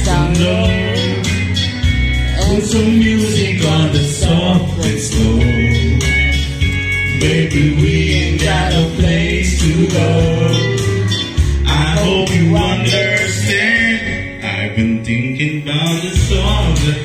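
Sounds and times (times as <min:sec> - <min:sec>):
man singing through microphone: 0:00.0 - 0:01.6, 0:02.3 - 0:06.4, 0:07.1 - 0:17.0
acoustic guitar strumming: 0:00.0 - 0:17.0.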